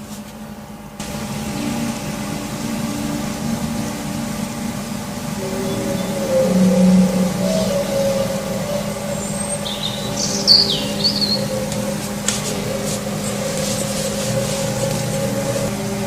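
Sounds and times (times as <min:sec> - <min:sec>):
low droning hum: 0:00.8 - 0:16.0
bird chirping: 0:02.6 - 0:15.5.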